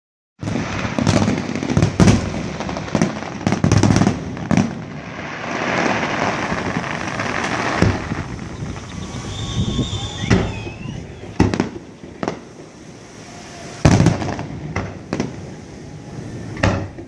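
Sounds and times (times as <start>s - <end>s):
fireworks bangs and crackles: 0.4s - 17.0s
fireworks hissing: 0.4s - 17.0s.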